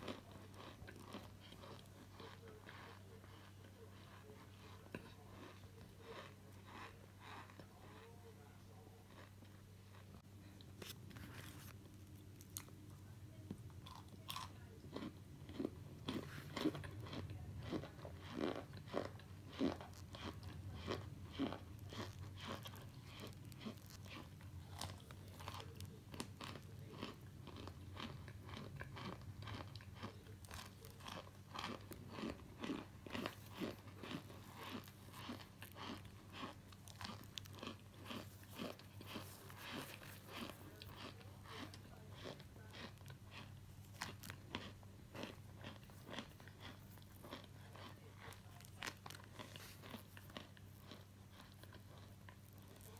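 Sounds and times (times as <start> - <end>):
person chewing crunchy food: 0.0 - 52.9.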